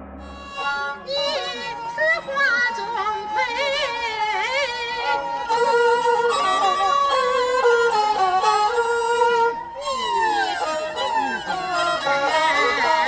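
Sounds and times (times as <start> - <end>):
bowed fiddle melody: 0.0 - 13.0.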